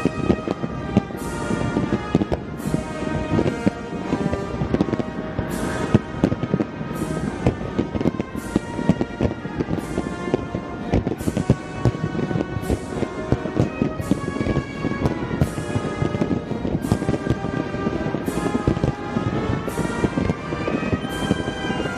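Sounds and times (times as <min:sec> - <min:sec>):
fireworks bangs: 0:00.0 - 0:21.9
fireworks crackling bursts: 0:00.0 - 0:21.9
music with sustained tones: 0:00.0 - 0:21.9.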